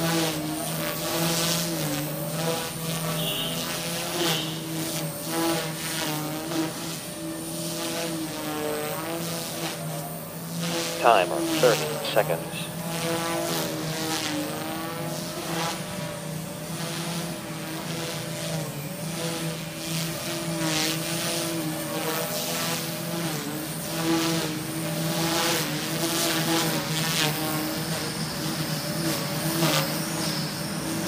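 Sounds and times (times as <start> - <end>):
rc helicopter motor whining hum: 0.0 - 11.0, 12.8 - 31.0.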